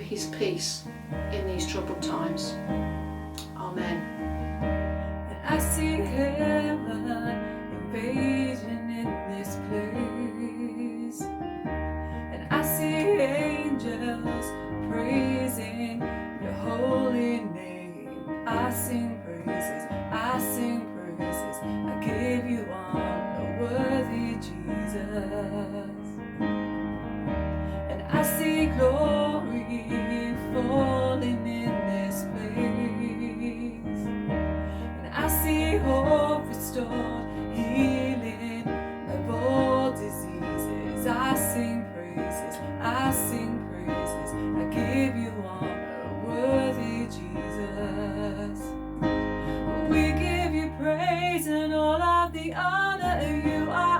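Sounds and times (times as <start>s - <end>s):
piano and keyboard: 0.0s - 53.9s
person singing: 1.3s - 26.2s, 27.6s - 53.9s.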